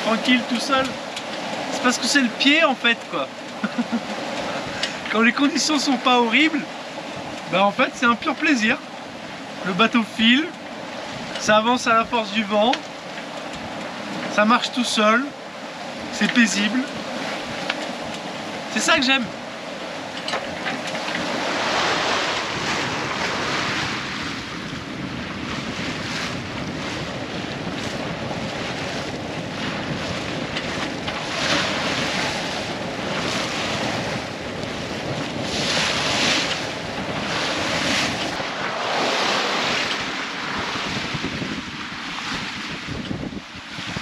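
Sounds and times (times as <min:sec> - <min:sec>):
wind buffeting microphone: 0:00.0 - 0:14.7, 0:15.3 - 0:44.0
water splashing along hull: 0:00.0 - 0:44.0.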